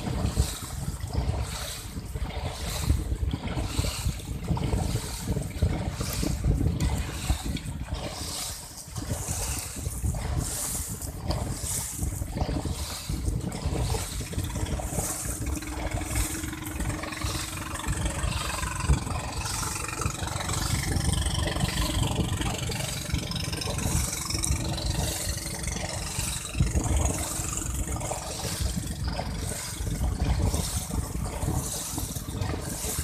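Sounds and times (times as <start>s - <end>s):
paddles splashing water: 0.0s - 33.0s
wind buffeting microphone: 0.0s - 33.0s.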